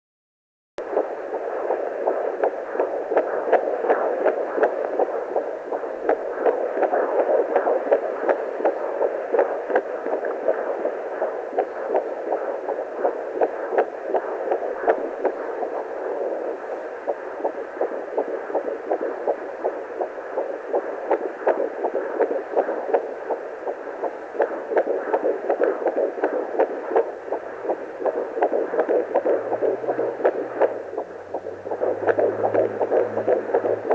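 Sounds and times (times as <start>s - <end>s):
fetal heartbeat whooshing pulses: 0.8s - 33.9s.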